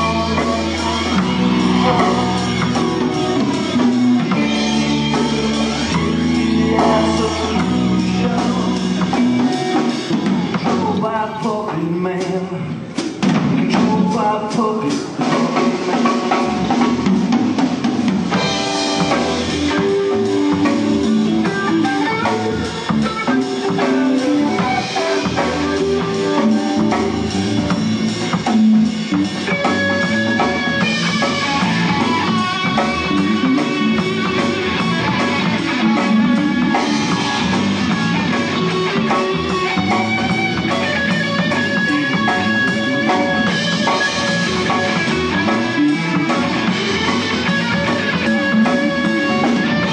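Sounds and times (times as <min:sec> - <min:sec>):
drum kit: 0:00.0 - 0:49.9
electric guitar: 0:00.0 - 0:49.9.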